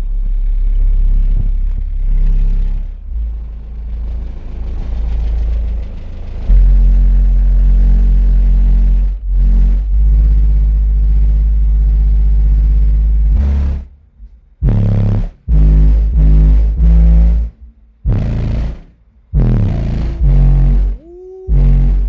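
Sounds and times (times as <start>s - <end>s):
subwoofer bass line: 0.0s - 22.0s.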